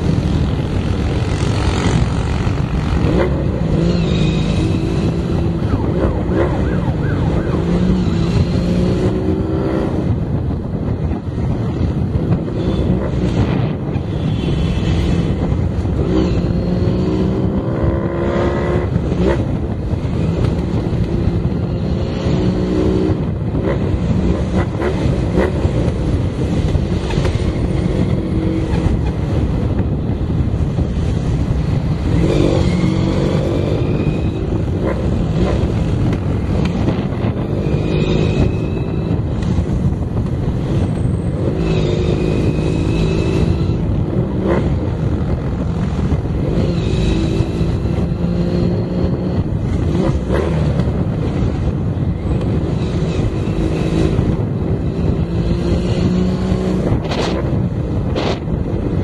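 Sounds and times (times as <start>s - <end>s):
motorcycle engine revving: 0.0s - 10.8s, 11.7s - 59.0s
wind and road rush: 0.0s - 59.0s.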